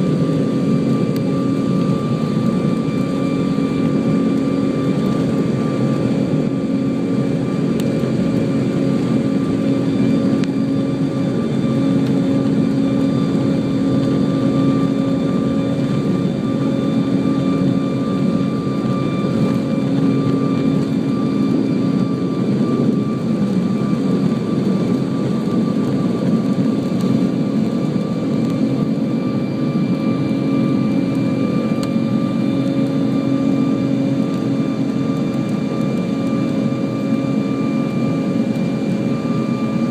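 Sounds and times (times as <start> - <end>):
constant engine rush: 0.0 - 39.9
jet engines whining: 0.0 - 39.9.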